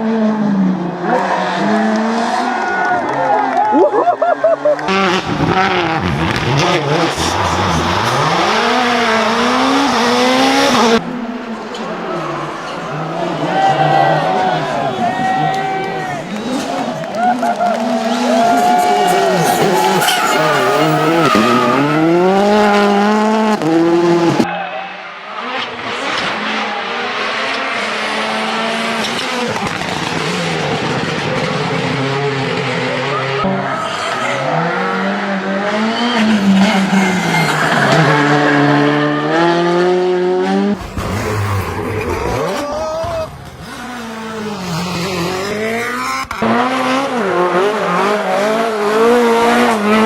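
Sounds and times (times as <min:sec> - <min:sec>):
car engine at high revs: 0:00.0 - 0:03.7, 0:04.6 - 0:50.0
gravel and tyre noise: 0:00.0 - 0:50.0.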